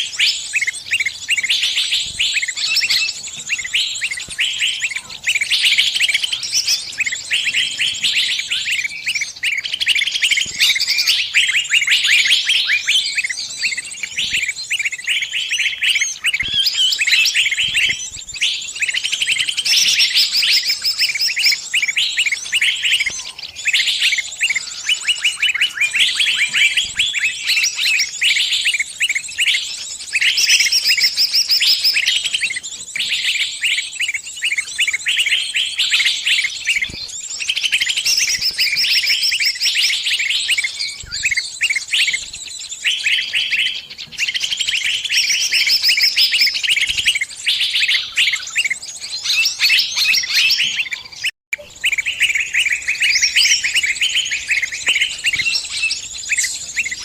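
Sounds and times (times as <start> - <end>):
songbirds distress chirping: 0.0 - 57.0.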